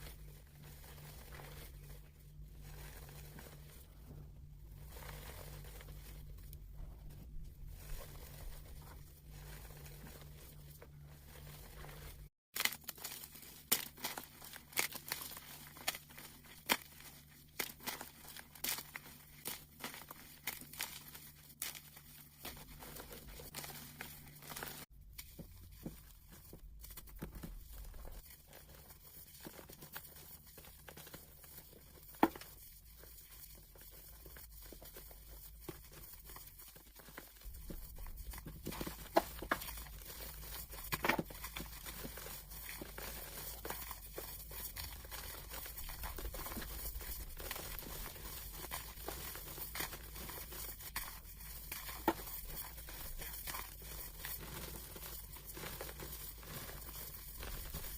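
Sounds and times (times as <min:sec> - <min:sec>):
chalk crunching and crackling: 0:00.0 - 0:57.9.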